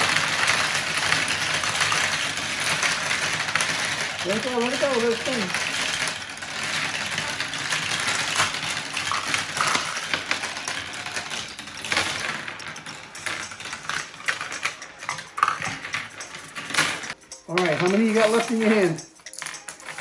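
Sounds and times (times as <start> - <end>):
glass marbles clattering down plastic run: 0.0 - 20.0.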